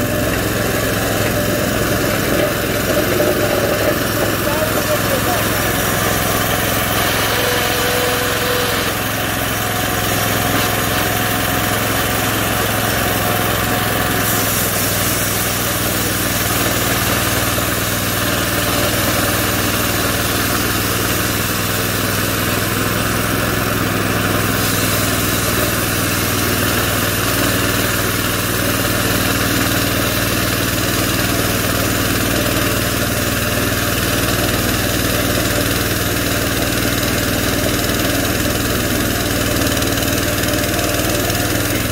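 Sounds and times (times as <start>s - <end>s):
bandsaw mill with gas engine: 0.0s - 41.9s.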